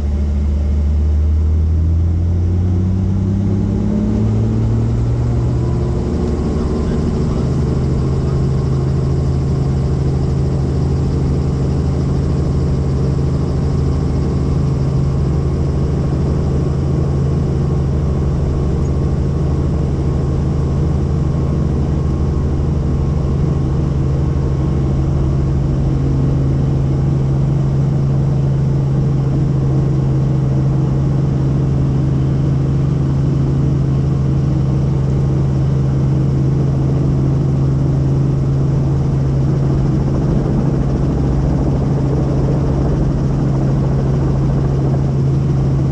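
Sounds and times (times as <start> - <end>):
helicopter engine and rotors: 0.0 - 45.9.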